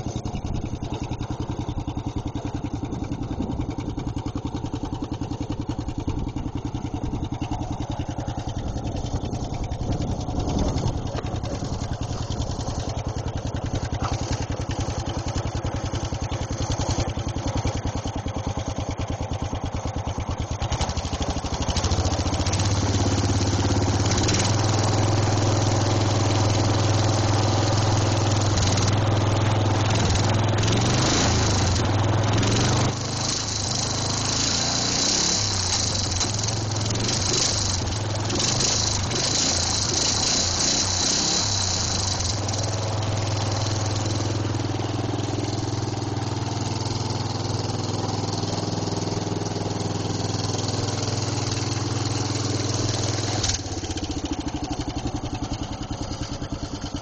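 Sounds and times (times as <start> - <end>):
riding lawnmower engine: 0.0 - 57.0.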